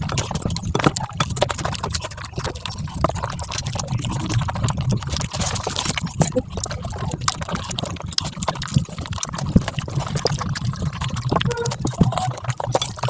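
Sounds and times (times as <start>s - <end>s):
rapid chewing and mouth smacking: 0.0s - 13.0s.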